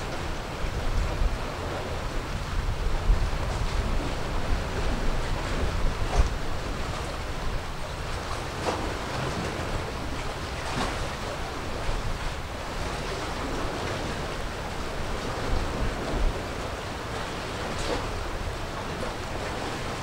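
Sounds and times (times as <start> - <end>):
sea water washing: 0.0 - 20.0
wind buffeting microphone: 0.0 - 20.0.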